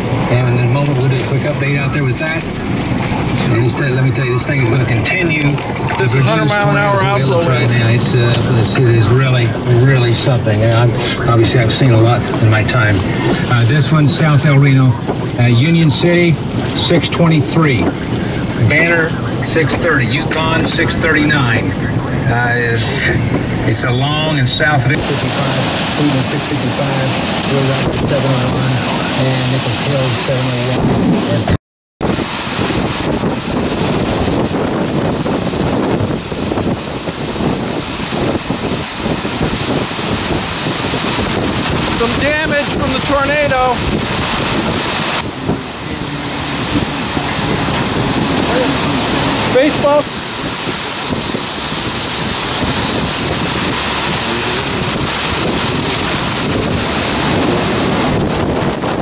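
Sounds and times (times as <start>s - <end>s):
violent storm wind buffeting: 0.0s - 59.0s.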